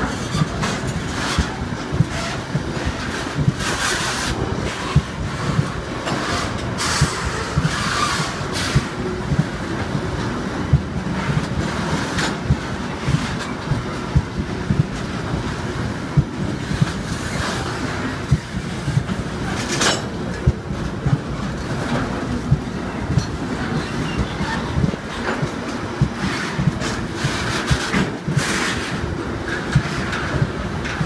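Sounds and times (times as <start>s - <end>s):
freight train rumbling past: 0.0s - 31.0s
wheels clacking over rail joints: 0.0s - 31.0s.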